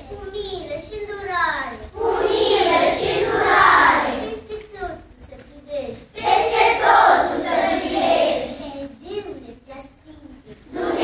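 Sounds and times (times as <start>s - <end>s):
children chanting a prayer: 0.0s - 11.0s.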